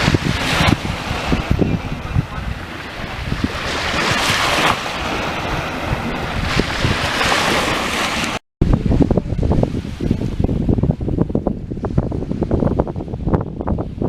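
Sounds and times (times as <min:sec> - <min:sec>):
waves washing on the shore: 0:00.0 - 0:14.0
wind buffeting the microphone: 0:00.0 - 0:14.0.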